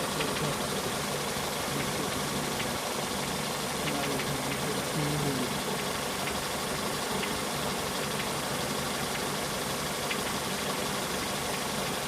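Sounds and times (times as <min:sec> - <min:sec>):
car engine idling: 0:00.0 - 0:12.0
faint sharp engine ticks: 0:00.0 - 0:12.0.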